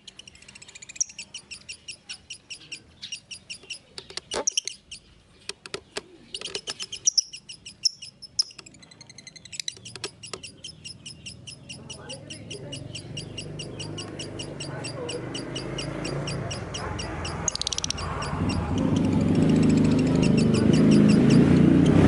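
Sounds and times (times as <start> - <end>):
bird chirping rapidly: 0.0 - 22.0
sharp clicks: 0.0 - 22.0.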